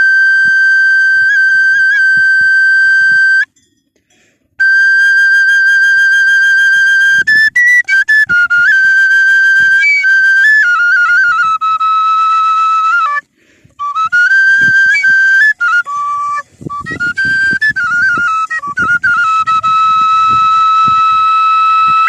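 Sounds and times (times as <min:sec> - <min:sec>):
flute playing slow melody: 0:00.0 - 0:03.5, 0:04.6 - 0:22.0.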